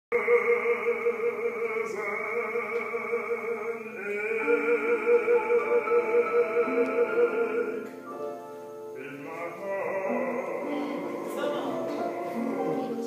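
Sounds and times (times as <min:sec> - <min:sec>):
man singing with vibrato: 0:00.1 - 0:13.0.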